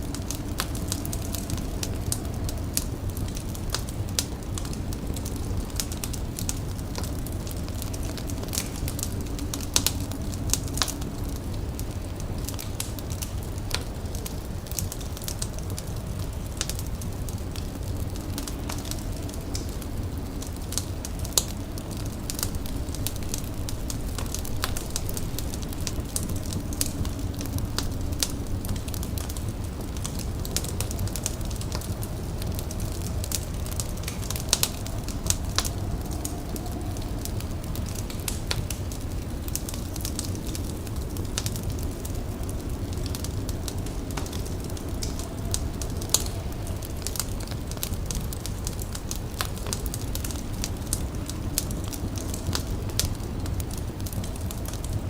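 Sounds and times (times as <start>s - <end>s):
fire crackling and popping: 0.0s - 55.0s
low rumble: 0.0s - 55.0s.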